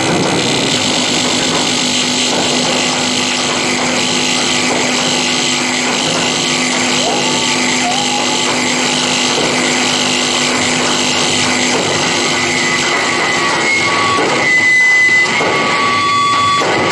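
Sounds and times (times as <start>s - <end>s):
grinding electronic drone: 0.0s - 16.9s.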